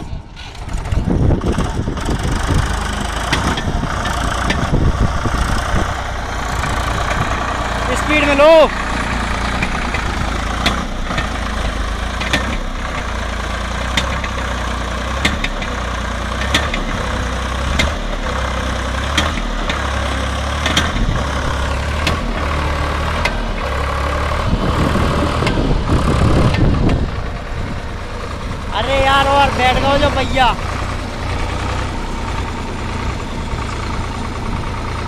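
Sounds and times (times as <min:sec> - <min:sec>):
tractor diesel engine straining: 0:00.0 - 0:35.0.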